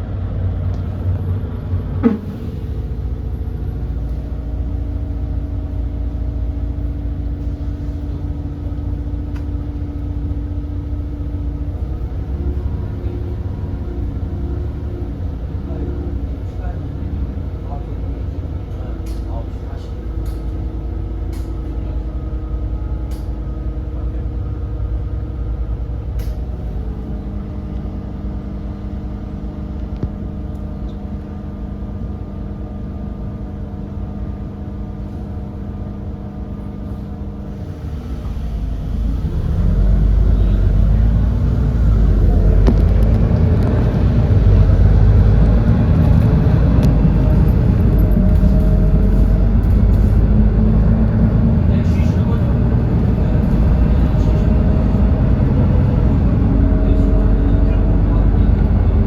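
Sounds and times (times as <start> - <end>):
bus engine idling: 0.0 - 59.0
bus engine revving: 0.0 - 59.0.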